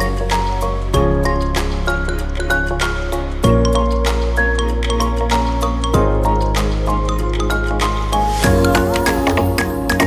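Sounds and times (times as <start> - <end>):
percussive beat: 0.0 - 10.0
steady bass: 0.0 - 10.0
synth chords: 0.0 - 10.0.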